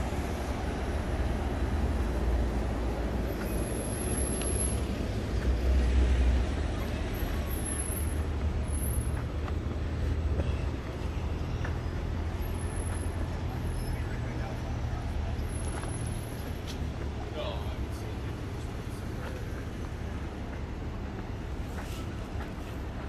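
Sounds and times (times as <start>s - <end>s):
rumble of passing vehicles: 0.0s - 23.0s.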